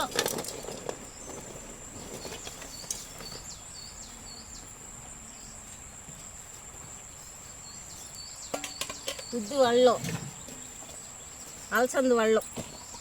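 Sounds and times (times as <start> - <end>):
bird chirps: 0.6 - 5.8, 6.8 - 13.0.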